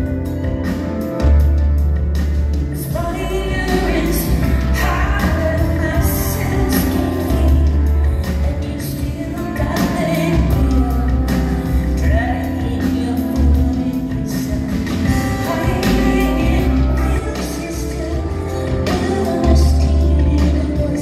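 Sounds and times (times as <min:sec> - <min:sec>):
heavy bass line: 0:00.0 - 0:09.3, 0:10.2 - 0:21.0
live band music: 0:00.0 - 0:21.0
woman singing: 0:02.6 - 0:21.0.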